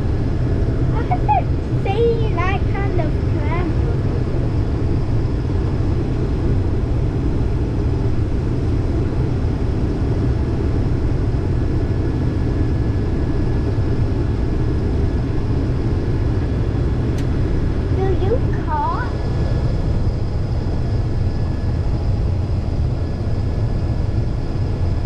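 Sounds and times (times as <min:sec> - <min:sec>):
combine harvester low drone: 0:00.0 - 0:25.0.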